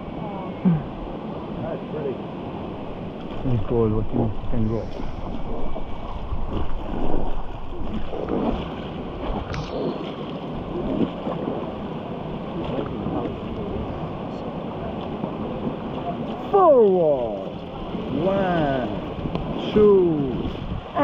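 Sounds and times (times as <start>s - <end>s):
river water rushing: 0.0s - 21.0s
wind buffeting microphone: 0.7s - 21.0s.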